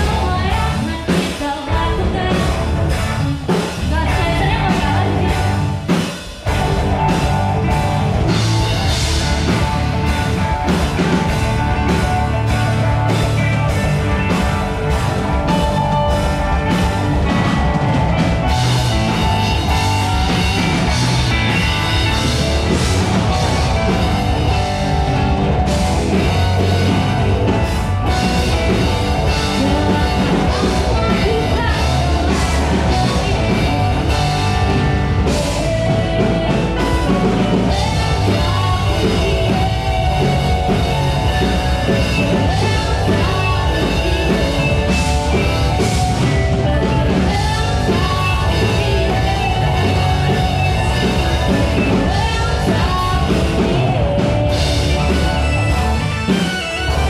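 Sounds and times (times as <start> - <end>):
person singing: 0.0 - 5.7, 13.8 - 57.0
drum kit: 0.0 - 57.0
electric guitar: 0.0 - 57.0
keyboard: 0.0 - 57.0.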